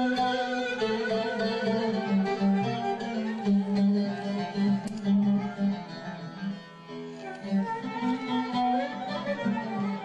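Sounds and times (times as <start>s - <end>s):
bowed strings holding notes: 0.0s - 10.0s
plucked string melody: 0.0s - 10.0s.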